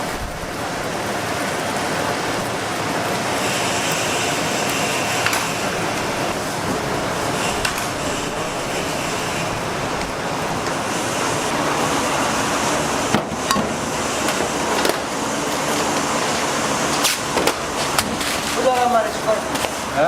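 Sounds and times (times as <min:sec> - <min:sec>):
loud background noise: 0:00.0 - 0:20.0.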